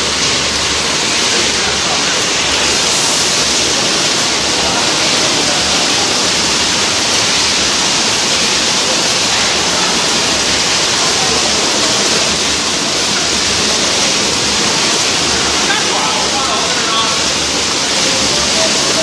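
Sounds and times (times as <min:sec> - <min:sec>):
canning machinery hissing din: 0:00.0 - 0:19.0.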